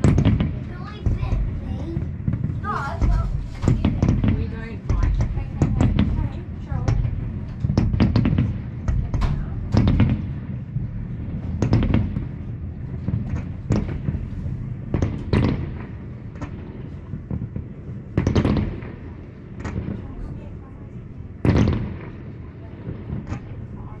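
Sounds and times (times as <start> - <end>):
fireworks bangs: 0.0 - 24.0
low rumble: 0.0 - 24.0.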